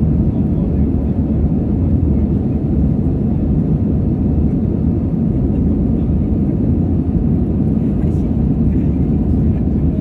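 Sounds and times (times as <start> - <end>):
jet engine cabin rumble: 0.0 - 10.0.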